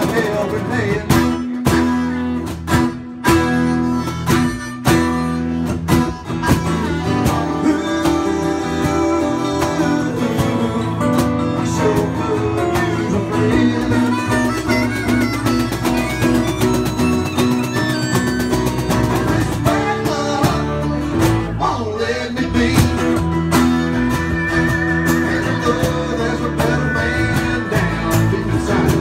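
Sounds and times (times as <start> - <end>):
acoustic guitar strumming: 0.0 - 29.0
bass line: 0.0 - 29.0
harmonica melody: 0.0 - 29.0.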